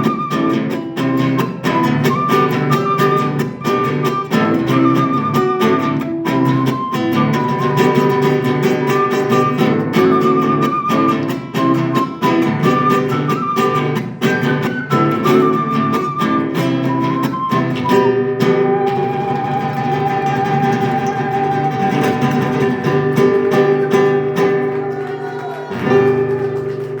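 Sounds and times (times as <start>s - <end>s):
acoustic guitar plucking: 0.0s - 27.0s.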